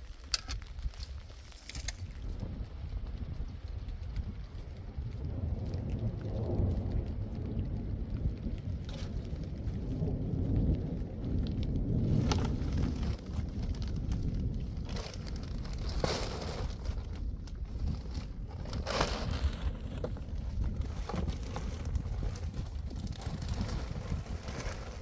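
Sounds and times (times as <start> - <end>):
crackles and rustles: 0.0 - 25.0
low rumbling noise: 1.9 - 25.0.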